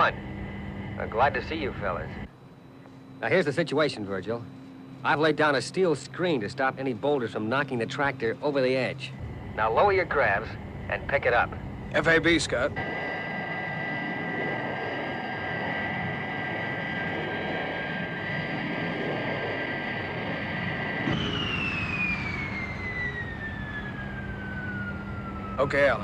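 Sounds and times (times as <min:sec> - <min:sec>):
jet engine whine and rumble: 0:00.0 - 0:26.0.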